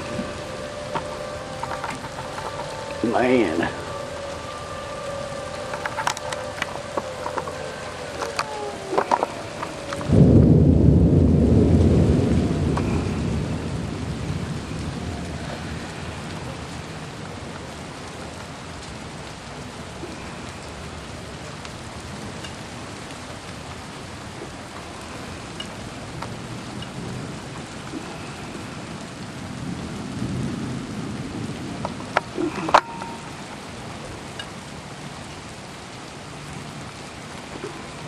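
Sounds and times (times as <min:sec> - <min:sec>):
heavy rain: 0:00.0 - 0:38.0
thunder rolling: 0:00.0 - 0:38.0.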